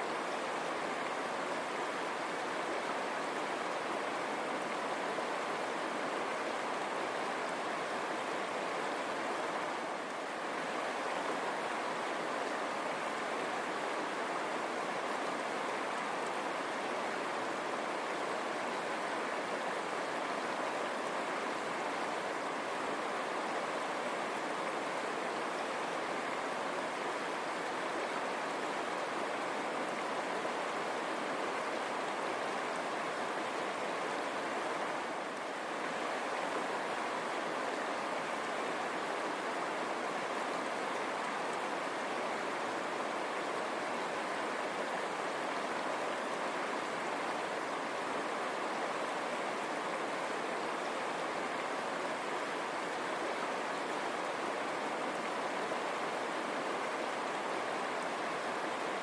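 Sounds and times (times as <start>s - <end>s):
river water running over stones: 0.0s - 59.0s.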